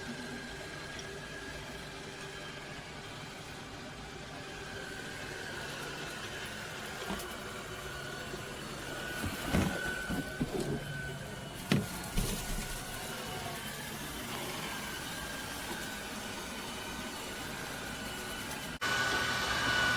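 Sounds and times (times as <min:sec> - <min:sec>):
robot vacuum humming: 0:00.0 - 0:19.9.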